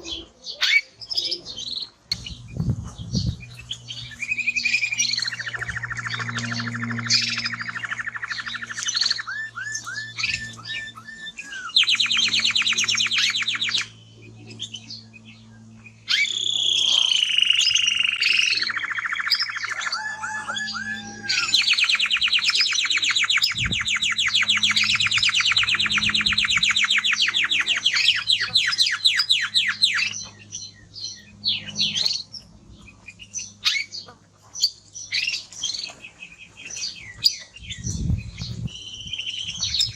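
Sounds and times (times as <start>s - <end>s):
canary singing rattling trills: 0.0s - 39.9s.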